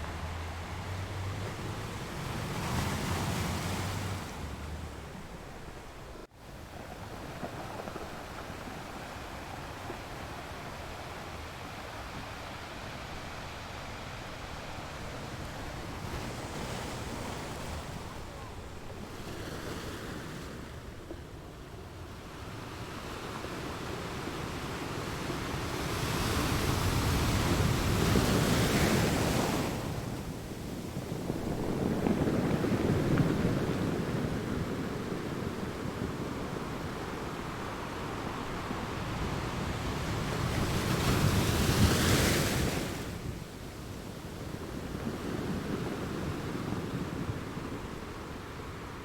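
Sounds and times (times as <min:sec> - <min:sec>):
ocean waves breaking: 0:00.0 - 0:49.0.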